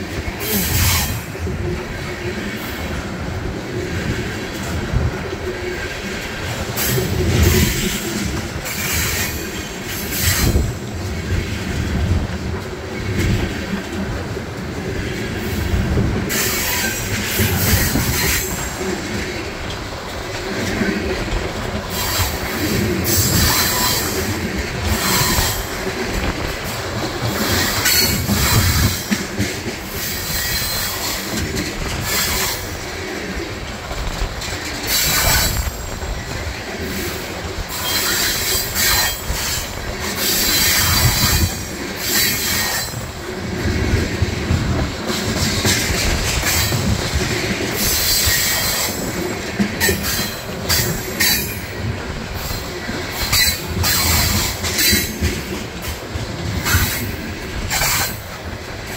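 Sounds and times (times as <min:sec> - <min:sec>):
freight train rumbling past: 0:00.0 - 0:58.9
wheels clacking over rail joints: 0:00.0 - 0:58.9.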